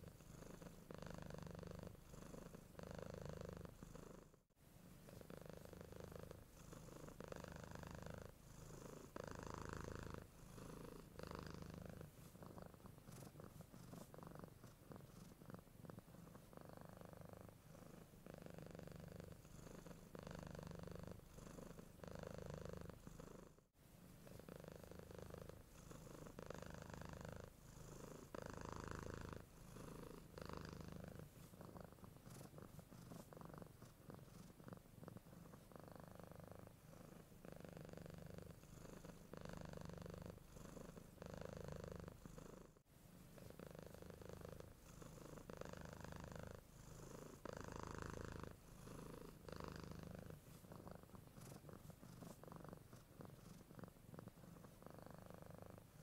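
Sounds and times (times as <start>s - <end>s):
cat purring softly: 0.0s - 56.0s.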